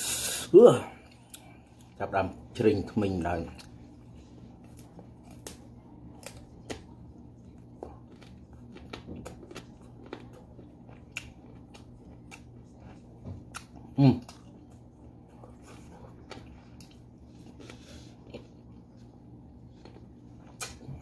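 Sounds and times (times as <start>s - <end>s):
steady low hum: 0.0s - 21.0s
crunchy chewing of mango: 1.0s - 21.0s.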